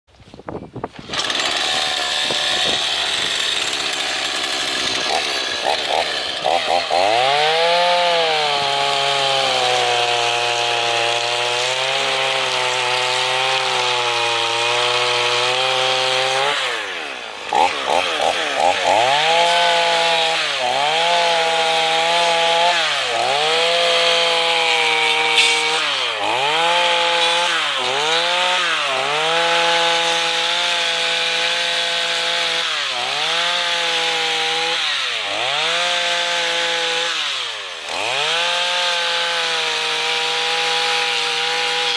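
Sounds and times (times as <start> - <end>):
chainsaw engine at high revs: 0.8 - 41.9.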